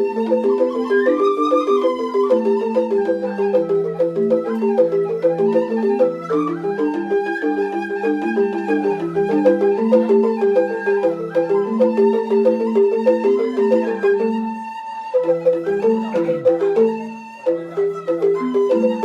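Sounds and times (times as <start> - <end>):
bamboo xylophone playing: 0.0 - 19.0.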